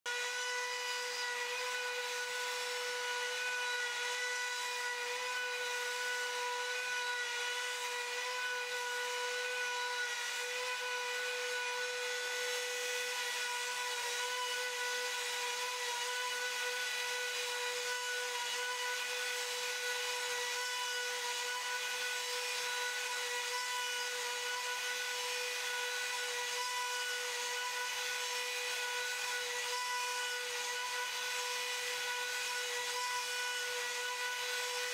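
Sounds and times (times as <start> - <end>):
router high whine: 0.1 - 34.9.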